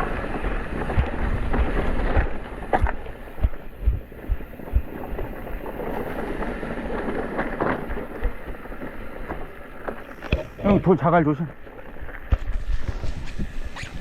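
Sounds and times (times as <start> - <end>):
low thumps of bike on bumps: 0.0 - 14.0
tyres rolling over stony trail: 0.0 - 14.0
wind rushing over microphone: 0.0 - 14.0.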